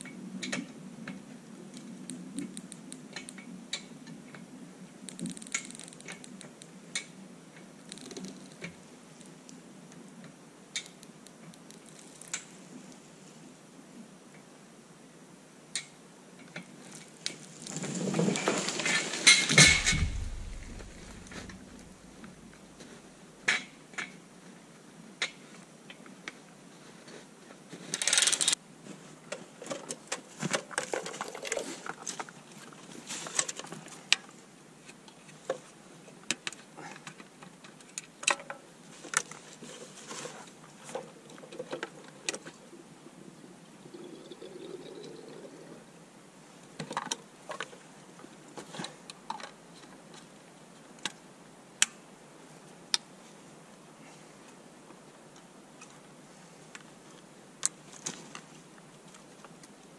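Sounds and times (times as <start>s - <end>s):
rustle: 0.0s - 59.9s.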